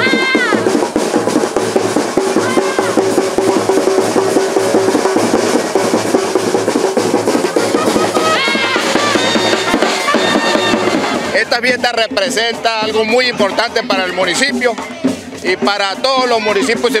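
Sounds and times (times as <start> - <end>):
fast dense festival drumming: 0.0 - 17.0.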